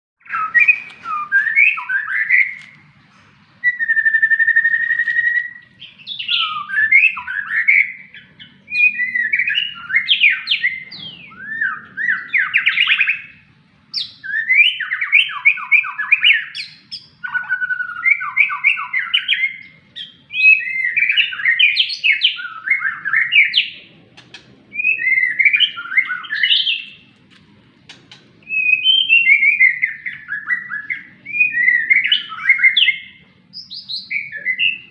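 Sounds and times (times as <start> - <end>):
bird singing whistled phrases: 0.2 - 2.7, 3.6 - 23.8, 24.7 - 27.0, 28.4 - 34.9.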